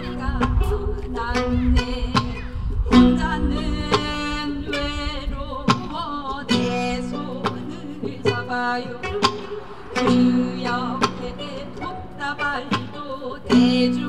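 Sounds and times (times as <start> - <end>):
guitar: 0.0 - 14.0
person singing: 0.0 - 14.0.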